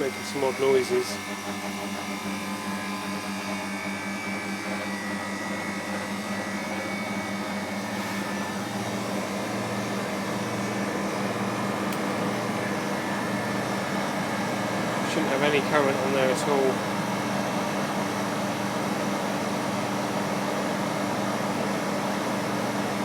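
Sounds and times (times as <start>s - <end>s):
odd compressor noises: 0.0s - 23.0s
refrigeration compressor humming: 0.0s - 23.0s.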